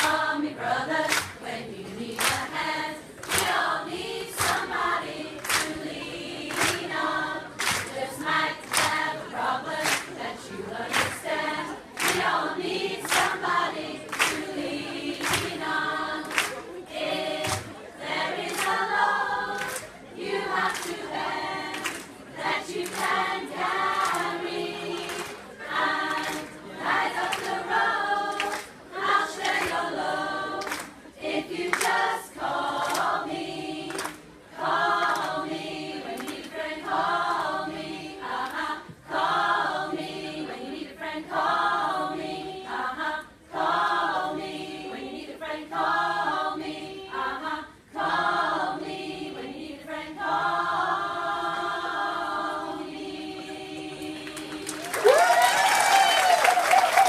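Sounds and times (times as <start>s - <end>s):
choir singing: 0.0s - 55.4s.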